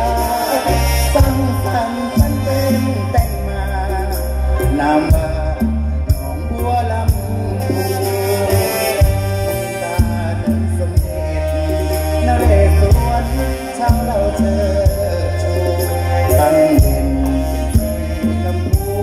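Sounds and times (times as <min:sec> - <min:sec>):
heavy bass line: 0:00.0 - 0:19.0
live band music: 0:00.0 - 0:19.0
steady drum beat: 0:00.0 - 0:19.0.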